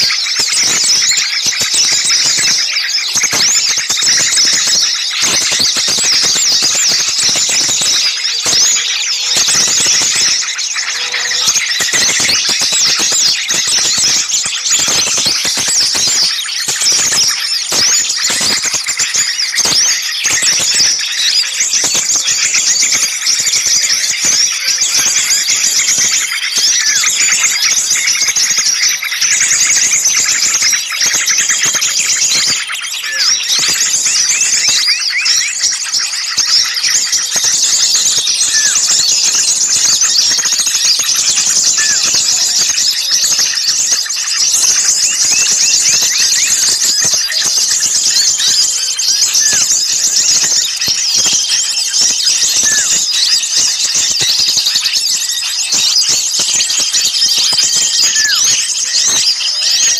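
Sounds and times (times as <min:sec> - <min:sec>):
small birds chirping in chorus: 0:00.0 - 0:59.9.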